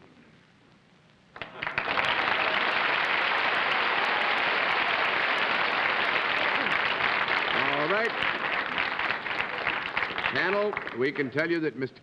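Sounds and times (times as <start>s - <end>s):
studio audience applause: 1.4s - 11.3s.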